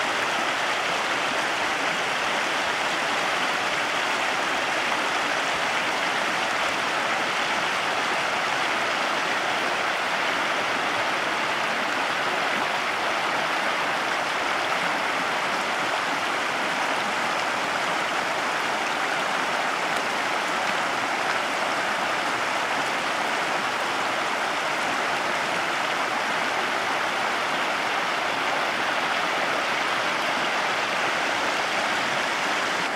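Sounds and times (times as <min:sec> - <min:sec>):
stream rushing over stones: 0:00.0 - 0:32.9.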